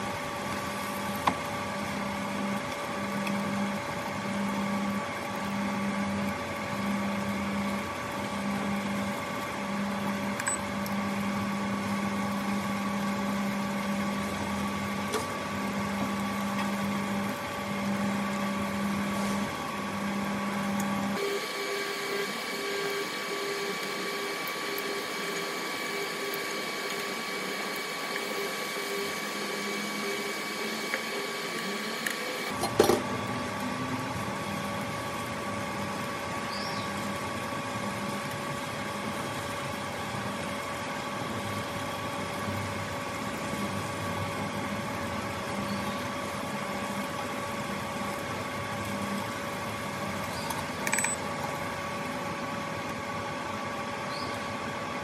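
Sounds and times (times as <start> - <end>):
induction hob hum and whine: 0.0 - 55.0.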